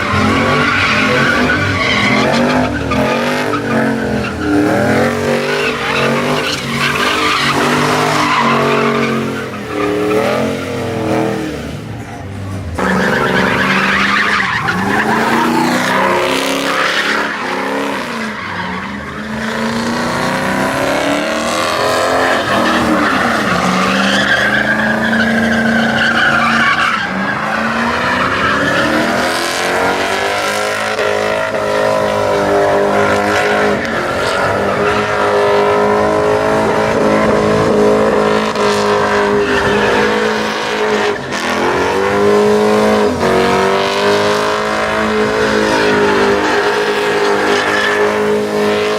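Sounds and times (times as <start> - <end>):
truck engine revving: 0.0 - 48.9
tyres squealing and skidding: 0.0 - 48.9.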